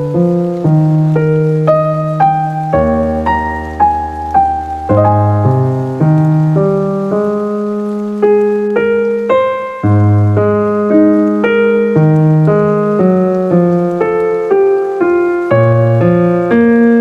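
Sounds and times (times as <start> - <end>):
piano-like keyboard melody: 0.0 - 17.0.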